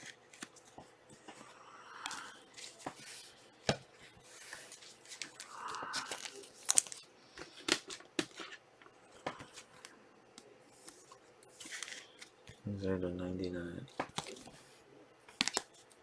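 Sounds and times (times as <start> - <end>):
cards clicking and tapping: 0.0 - 16.0
cards rustling: 0.0 - 16.0.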